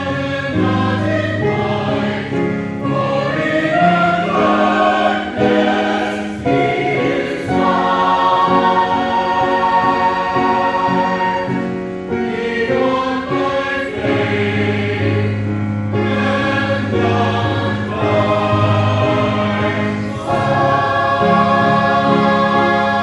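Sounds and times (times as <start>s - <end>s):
choir singing a hymn: 0.0s - 23.0s.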